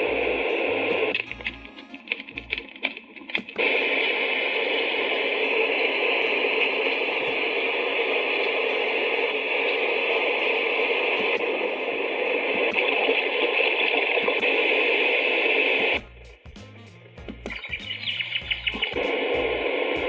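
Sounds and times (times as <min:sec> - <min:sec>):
white noise hiss from small speaker: 0:00.0 - 0:16.4.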